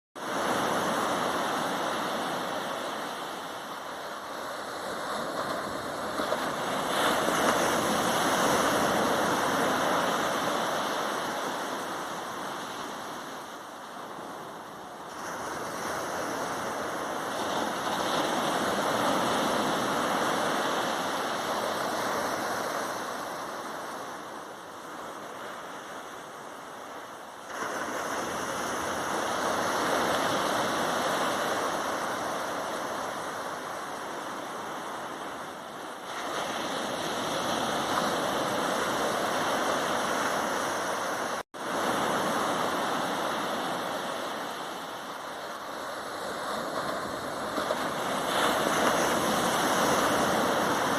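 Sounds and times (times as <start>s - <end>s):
waves breaking on beach: 0.2s - 50.9s.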